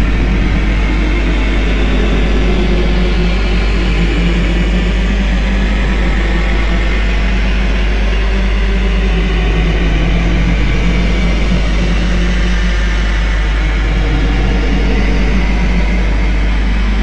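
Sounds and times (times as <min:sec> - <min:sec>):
dark ambient drone: 0:00.0 - 0:17.0.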